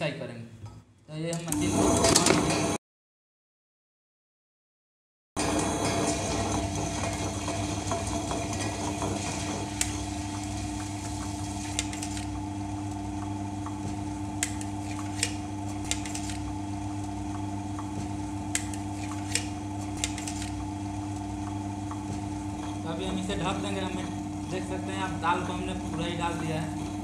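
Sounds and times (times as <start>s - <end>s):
wet grinder humming: 1.5s - 2.8s, 5.4s - 27.0s.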